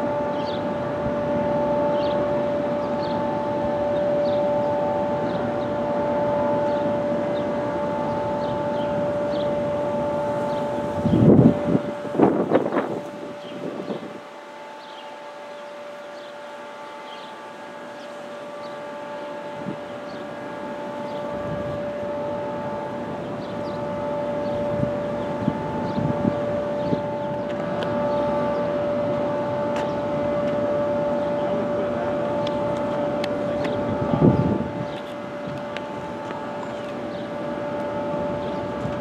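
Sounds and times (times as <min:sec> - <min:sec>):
electronic warning siren: 0:00.0 - 0:39.0.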